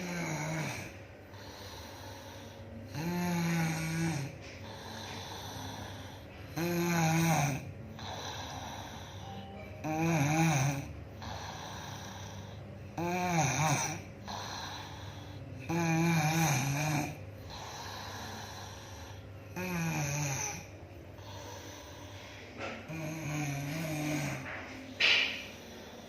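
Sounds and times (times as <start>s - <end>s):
woman snoring: 0.0s - 22.2s, 22.8s - 26.0s
quiet breathing: 0.0s - 26.0s.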